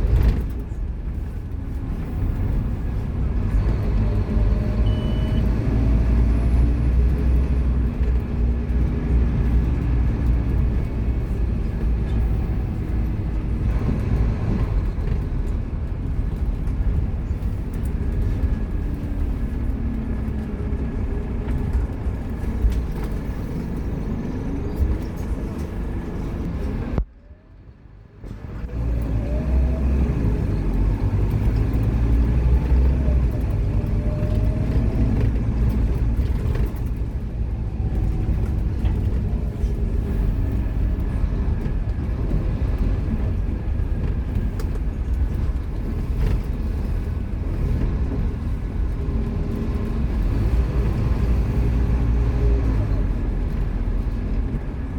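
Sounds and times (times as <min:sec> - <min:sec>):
bus diesel engine rumbling: 0:00.0 - 0:54.9.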